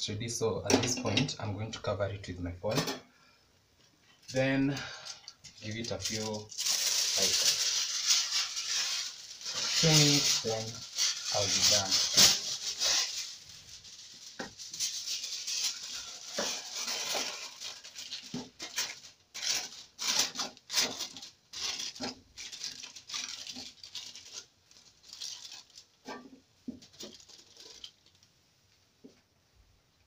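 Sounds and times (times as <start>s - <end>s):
aluminium foil crinkling: 4.1s - 28.4s.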